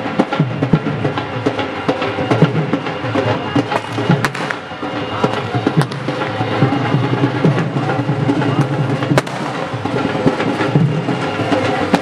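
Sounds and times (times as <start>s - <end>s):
dhol drum beating: 0.0s - 12.0s.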